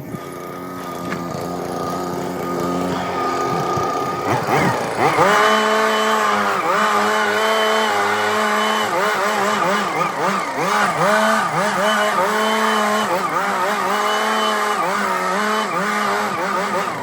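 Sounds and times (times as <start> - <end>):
small gasoline engine revving: 0.0 - 17.0.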